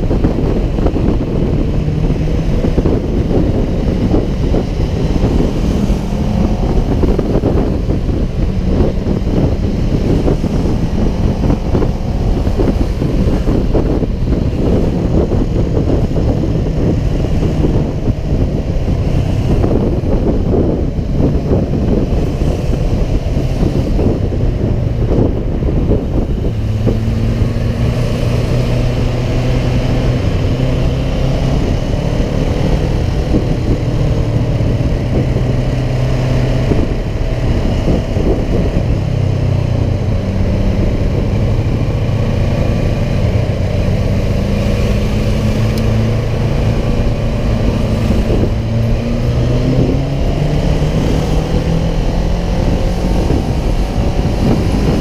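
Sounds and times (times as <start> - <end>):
motorcycle engine running: 0.0 - 55.0
wind rumbling on microphone: 0.0 - 55.0.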